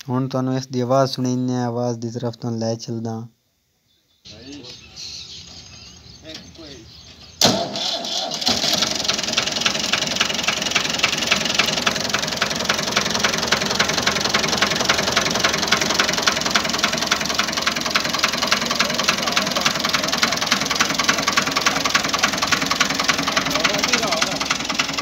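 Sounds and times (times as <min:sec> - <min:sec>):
tractor diesel engine idling: 0:04.3 - 0:25.0.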